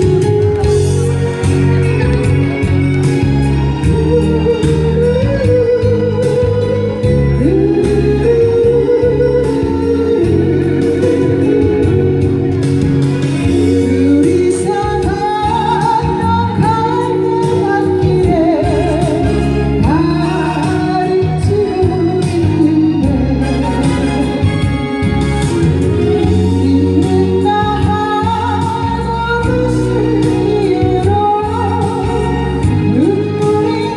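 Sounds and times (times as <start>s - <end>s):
electronic organ backing track: 0.0s - 33.9s
woman singing with vibrato: 3.6s - 12.7s, 13.4s - 33.9s.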